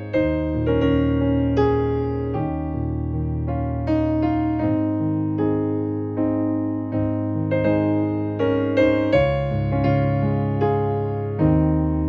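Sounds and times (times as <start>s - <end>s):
piano bass line: 0.0s - 12.0s
piano hymn chords: 0.0s - 12.0s.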